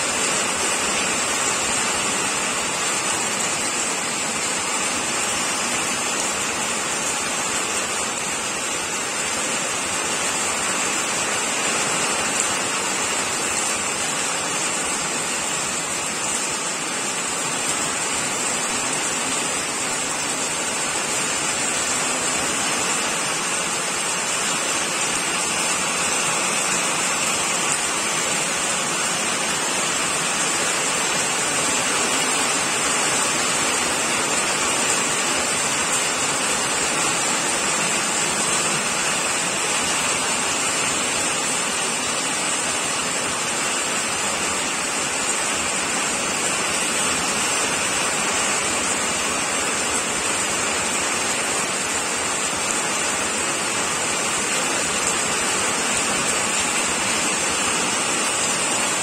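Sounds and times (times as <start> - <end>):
rain pouring: 0.0 - 59.0.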